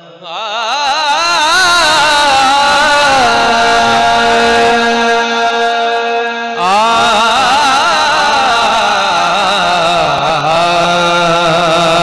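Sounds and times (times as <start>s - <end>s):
man singing long note: 0.0s - 12.0s.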